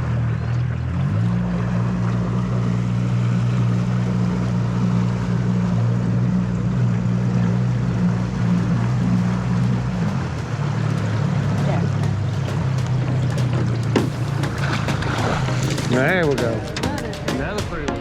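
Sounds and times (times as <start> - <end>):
outboard motor running: 0.0 - 18.0
water: 0.0 - 18.0
wind: 0.0 - 18.0.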